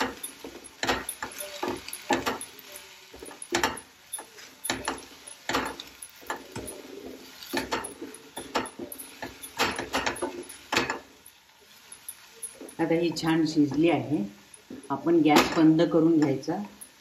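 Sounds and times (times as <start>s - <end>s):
wooden spatula scraping frying pan: 0.0s - 15.0s.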